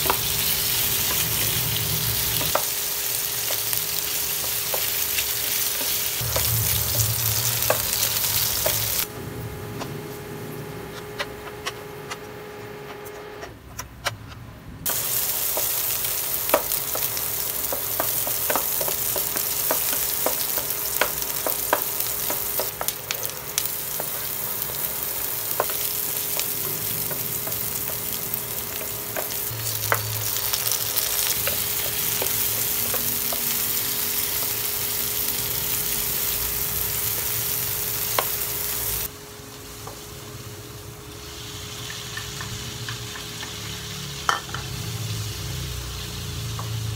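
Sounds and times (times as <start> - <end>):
garlic sizzling in hot oil: 0.0 - 9.1, 14.9 - 46.9.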